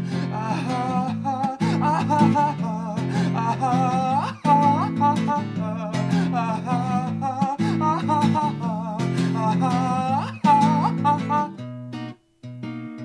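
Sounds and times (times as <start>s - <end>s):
lap acoustic guitar plucked: 0.0s - 13.0s
wordless wavering vocal: 0.1s - 11.5s.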